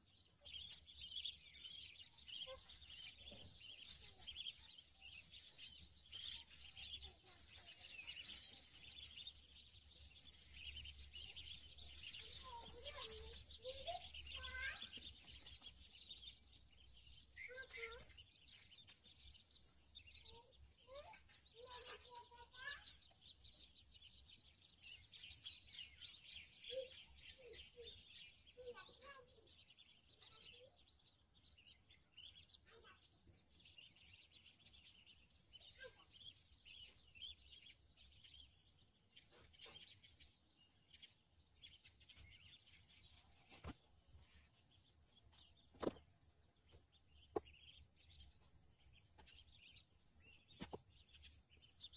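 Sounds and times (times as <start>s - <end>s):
ducklings peeping: 0.0s - 51.9s.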